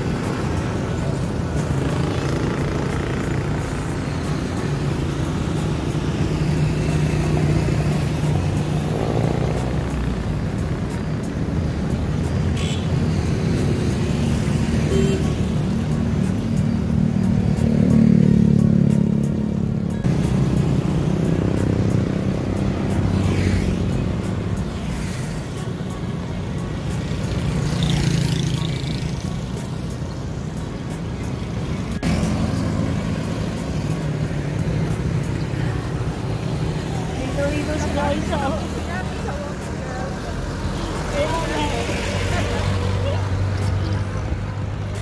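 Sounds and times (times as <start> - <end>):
cars and motorcycles passing: 0.0 - 45.0
road traffic rumble: 0.0 - 45.0.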